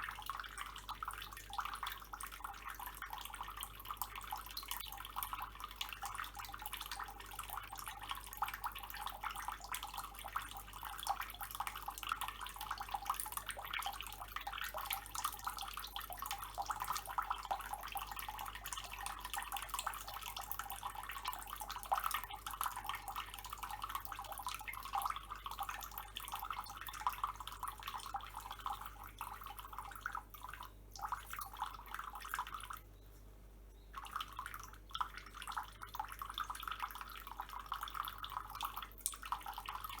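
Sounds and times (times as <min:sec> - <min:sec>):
tap water running and splashing: 0:00.0 - 0:32.3
dripping water patter: 0:00.0 - 0:32.9, 0:33.8 - 0:40.0.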